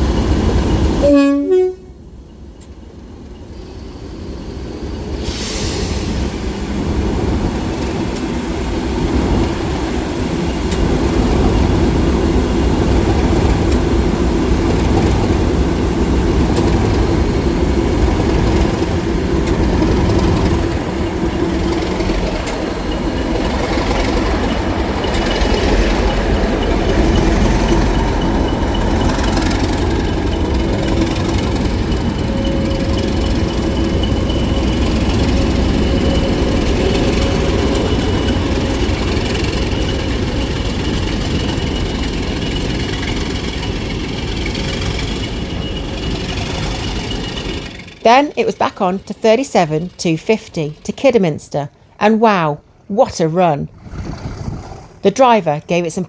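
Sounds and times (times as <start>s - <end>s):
diesel locomotive engine drone: 0.0s - 53.8s.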